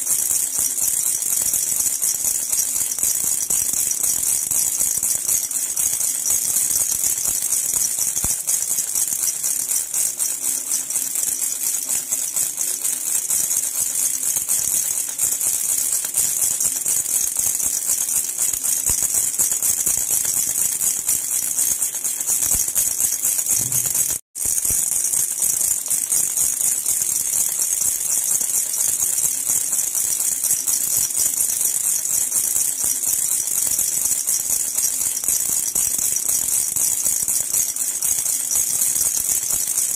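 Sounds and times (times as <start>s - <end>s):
metallic baby rattle jingling: 0.0s - 39.9s.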